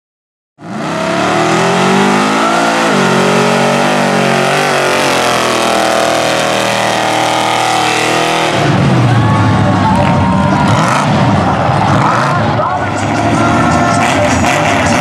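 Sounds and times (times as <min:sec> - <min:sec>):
truck engine revving: 0:00.6 - 0:15.0.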